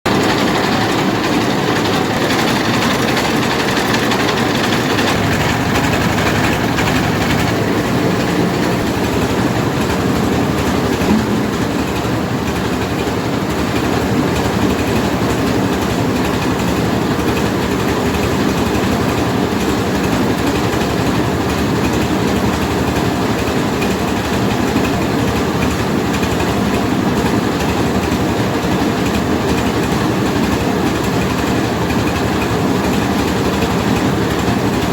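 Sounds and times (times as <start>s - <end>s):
rice milling machine rattling: 0.1s - 34.9s.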